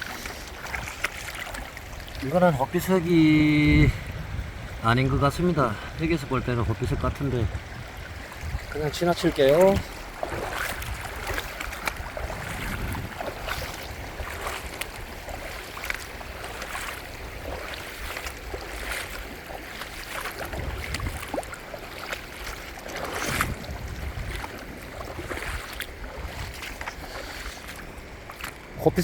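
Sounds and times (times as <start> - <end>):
wind rumble on microphone: 2.6 - 29.0.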